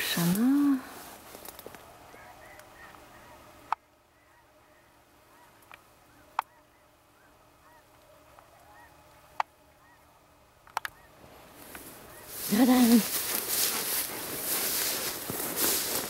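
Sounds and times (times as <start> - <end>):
distant geese honking: 1.8 - 16.0.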